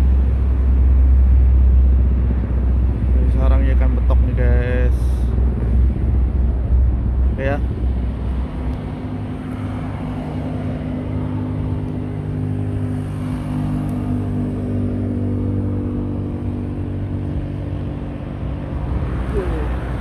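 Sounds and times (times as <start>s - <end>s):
road traffic noise: 0.0s - 20.0s
vehicle engine running steadily: 0.0s - 20.0s.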